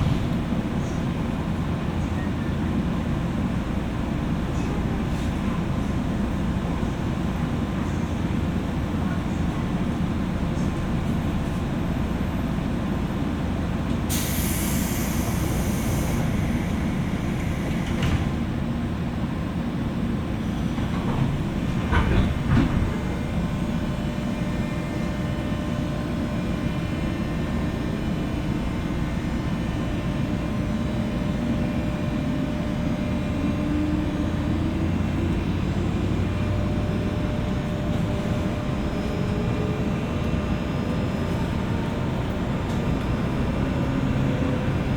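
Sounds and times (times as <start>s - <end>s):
train wheels rumbling: 0.0s - 44.9s.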